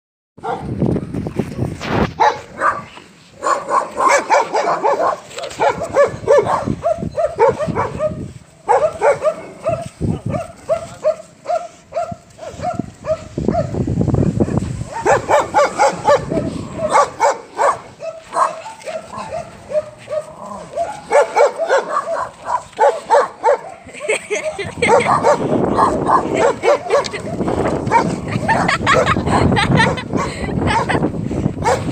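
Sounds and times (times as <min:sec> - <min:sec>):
dog barking rapidly: 0:00.4 - 0:00.7, 0:02.2 - 0:13.8, 0:14.9 - 0:23.7, 0:24.8 - 0:31.0, 0:31.6 - 0:31.9.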